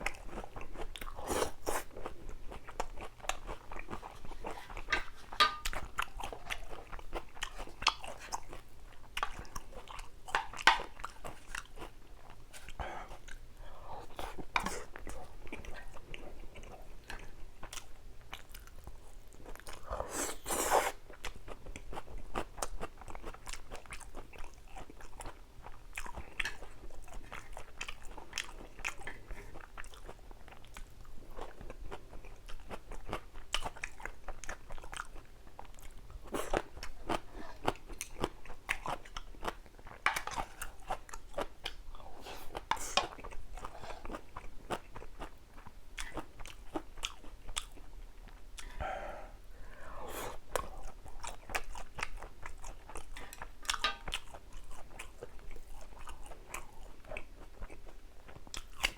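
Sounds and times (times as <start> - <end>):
person chewing crunchy food: 0.0 - 58.9.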